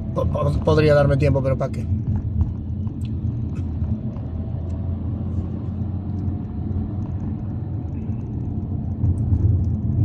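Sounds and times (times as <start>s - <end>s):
road and engine rumble in car: 0.0s - 10.0s.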